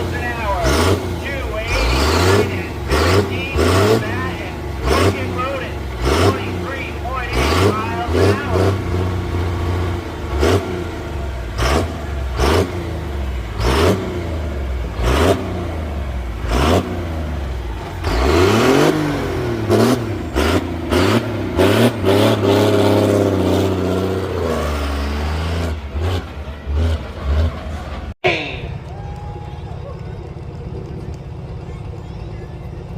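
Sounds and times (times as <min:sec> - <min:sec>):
truck engine revving: 0:00.0 - 0:28.9.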